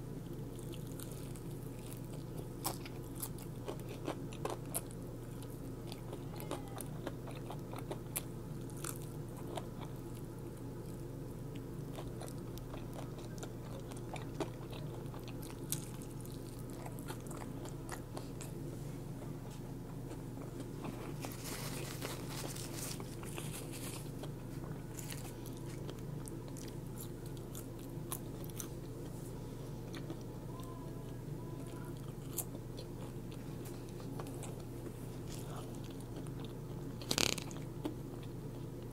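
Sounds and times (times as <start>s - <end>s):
crunching and chewing food: 0.0s - 38.9s
steady low hum: 0.0s - 38.9s.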